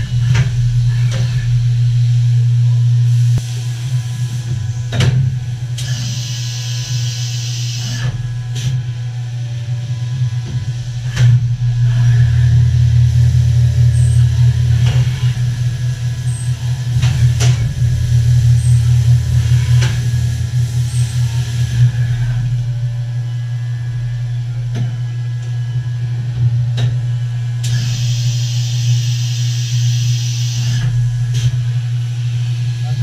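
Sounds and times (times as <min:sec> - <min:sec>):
milling machine humming: 0:00.0 - 0:33.0.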